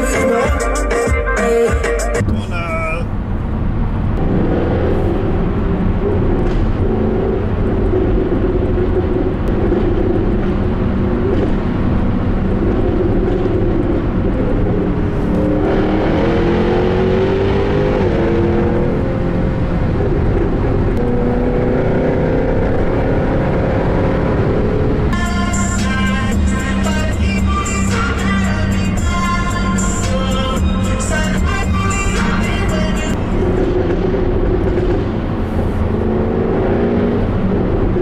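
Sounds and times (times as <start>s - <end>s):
car engine in a tunnel: 2.2s - 38.0s.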